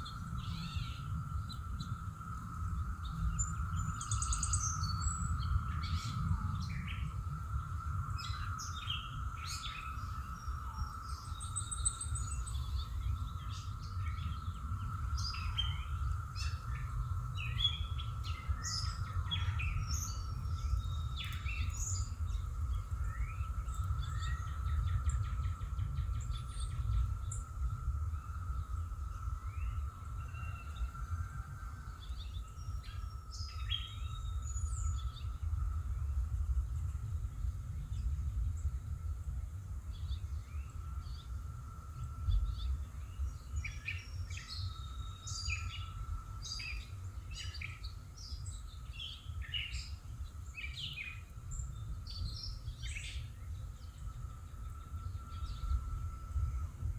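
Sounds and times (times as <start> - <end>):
constant low rumble: 0.0 - 56.9.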